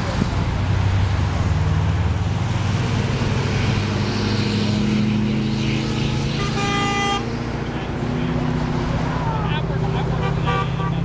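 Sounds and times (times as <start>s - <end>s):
vehicles passing on highway: 0.0s - 11.0s.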